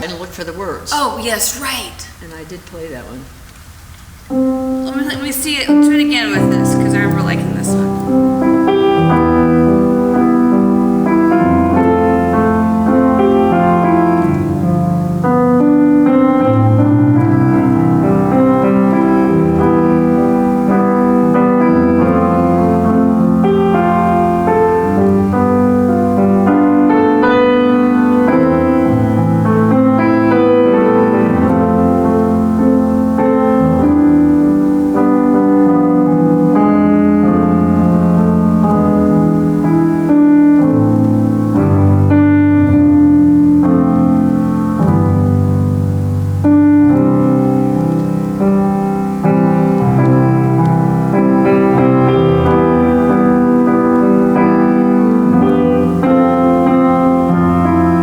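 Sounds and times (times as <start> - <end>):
slow solo piano piece: 4.0 - 58.0.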